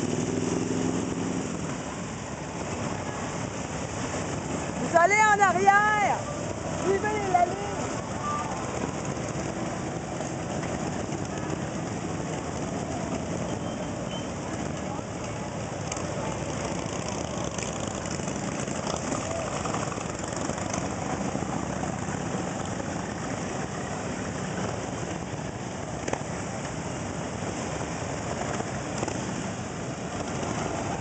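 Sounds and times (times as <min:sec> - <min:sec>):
motorcycles passing: 0:00.0 - 0:31.0.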